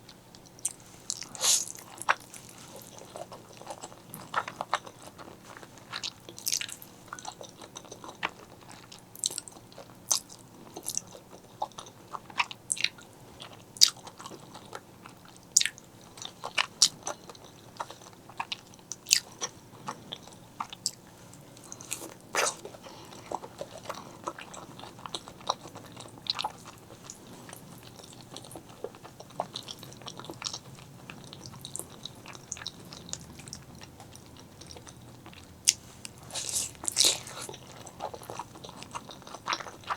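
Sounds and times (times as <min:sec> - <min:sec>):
close chewing and crunching: 0:00.0 - 0:39.9.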